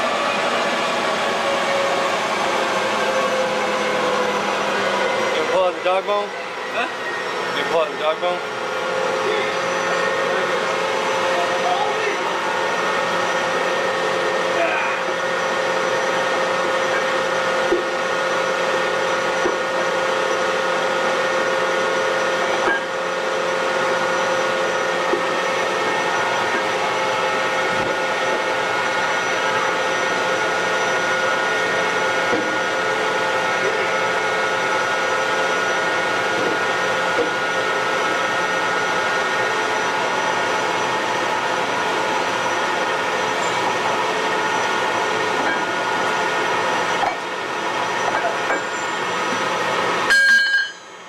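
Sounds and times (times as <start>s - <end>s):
machinery drone with whining tones: 0.0s - 51.0s.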